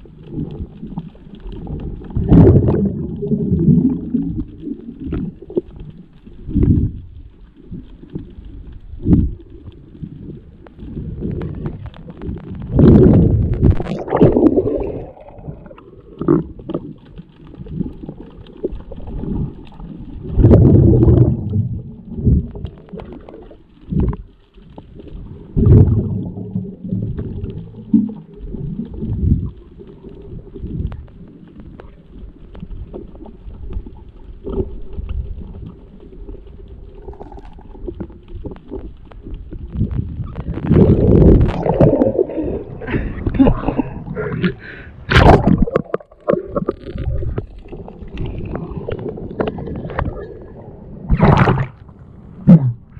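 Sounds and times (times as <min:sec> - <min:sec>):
underwater bubbling and rushing water: 0:00.0 - 0:52.9
water splashing: 0:00.0 - 0:52.9.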